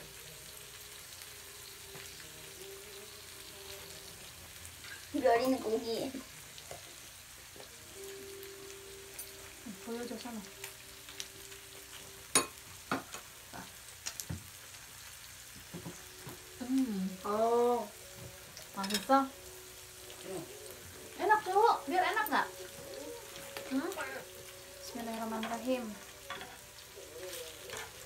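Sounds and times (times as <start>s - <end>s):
meat sizzling on grill pan: 0.0s - 28.0s.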